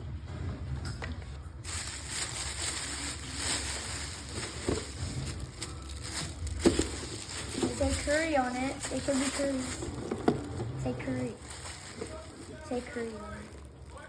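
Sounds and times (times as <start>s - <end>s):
shoe box and paper rustling: 1.2s - 14.0s.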